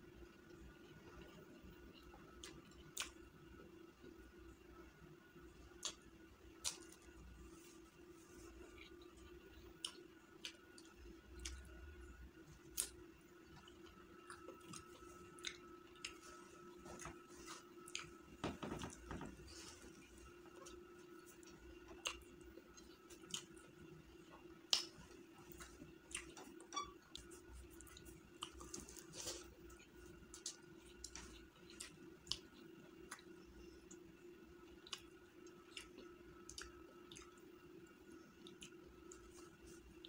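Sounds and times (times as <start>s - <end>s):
faint steady hum: 0.0s - 40.0s
quiet chewing with wet clicks: 0.3s - 4.7s, 5.6s - 40.0s.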